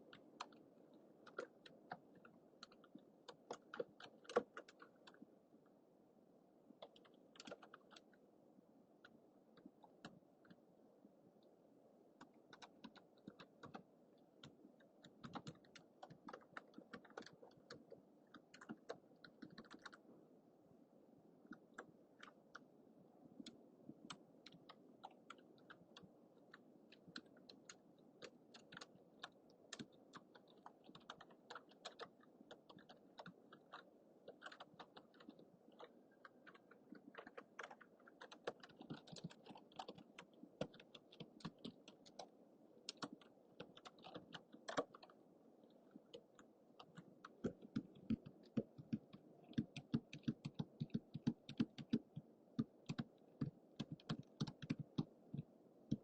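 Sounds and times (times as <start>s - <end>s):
faint microphone hiss: 0.0s - 56.0s
typing on computer keyboard: 0.1s - 5.2s, 6.8s - 8.2s, 12.2s - 20.0s, 23.4s - 42.3s, 42.9s - 45.2s, 46.1s - 56.0s.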